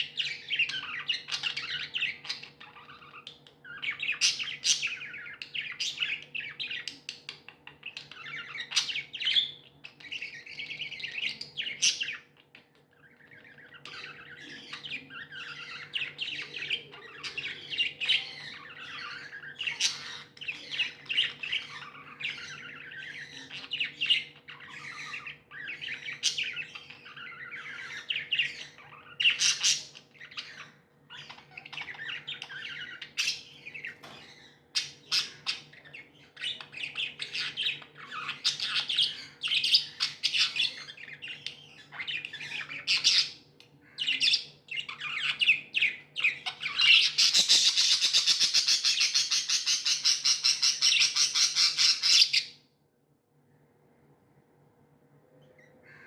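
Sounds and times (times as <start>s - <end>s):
budgerigars chirping and squawking: 0.0s - 52.7s.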